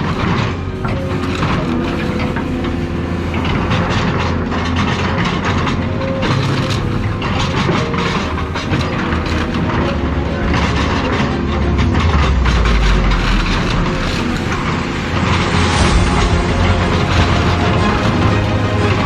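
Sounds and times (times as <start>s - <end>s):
diesel machine rumble: 0.0s - 19.0s
metal cracking and crunching: 0.0s - 19.0s.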